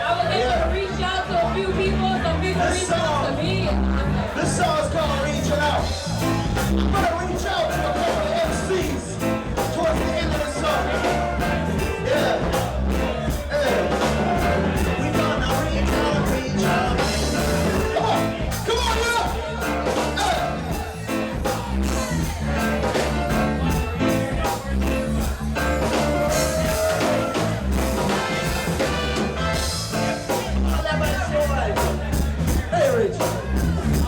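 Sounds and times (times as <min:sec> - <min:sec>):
heavy bass line: 0:00.0 - 0:34.0
live reggae band: 0:00.0 - 0:34.0
steady drum beat: 0:04.3 - 0:34.0.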